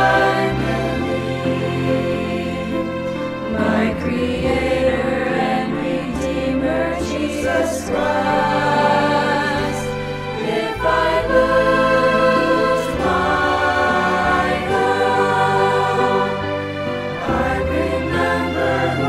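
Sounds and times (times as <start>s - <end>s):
mixed choir singing: 0.0s - 19.0s.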